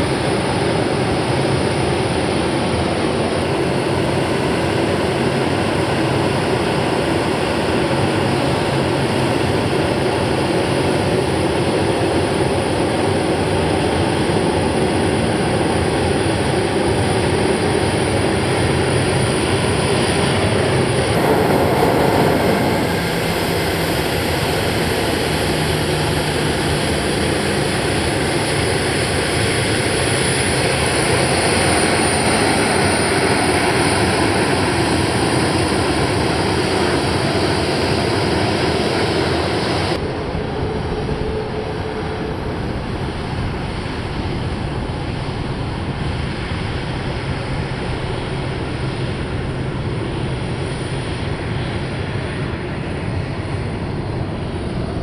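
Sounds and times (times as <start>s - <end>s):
high jet whine: 0.0s - 55.0s
jet engines rumbling: 0.0s - 55.0s.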